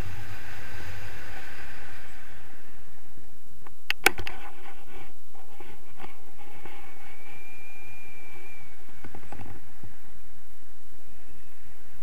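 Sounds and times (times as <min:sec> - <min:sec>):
faint high steady tone: 0:00.0 - 0:12.0
muffled wind on microphone: 0:00.0 - 0:12.0.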